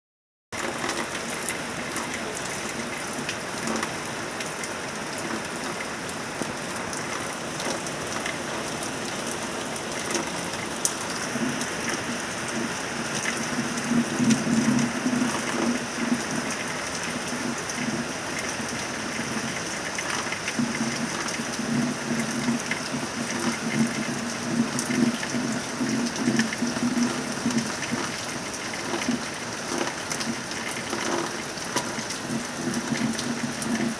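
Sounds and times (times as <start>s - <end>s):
rain falling: 0.6s - 33.9s.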